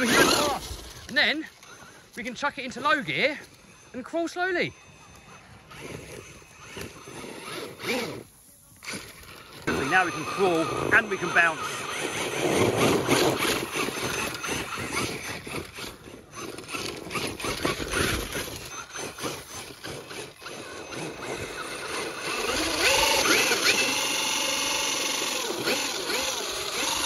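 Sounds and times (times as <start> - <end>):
electric motor whining: 0.0 - 27.0
tyres scrabbling in dirt: 0.0 - 27.0.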